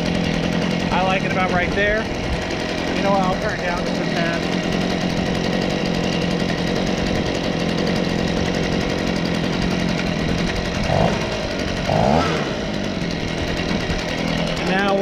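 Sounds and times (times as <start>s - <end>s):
leaf blower engine idling: 0.0s - 15.0s
leaf blower engine revving: 0.0s - 15.0s.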